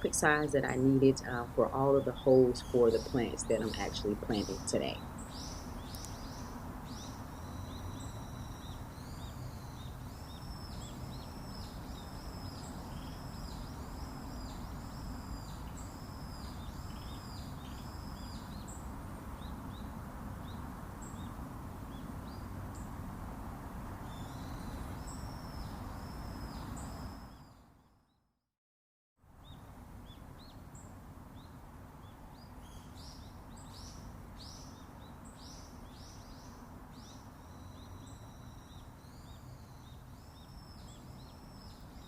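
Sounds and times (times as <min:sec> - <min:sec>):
outdoor background noise: 0:00.0 - 0:28.3, 0:29.2 - 0:42.0.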